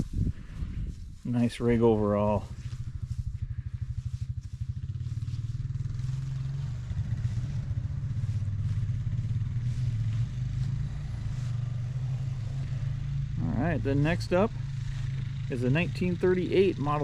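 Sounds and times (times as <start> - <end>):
tractor engine idling: 1.3 - 11.4, 13.3 - 17.0.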